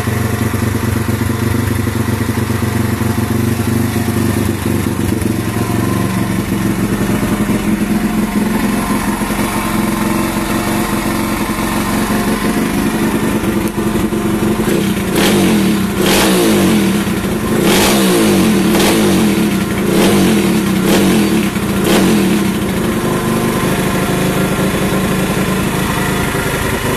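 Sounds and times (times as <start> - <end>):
motorbike engine idling and revving: 0.0 - 26.9.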